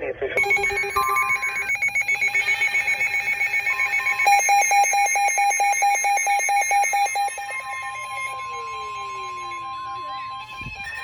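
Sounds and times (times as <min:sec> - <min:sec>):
lower repeating alarm beep: 0:00.4 - 0:11.0
rapid high-pitched alarm beeping: 0:00.4 - 0:11.0.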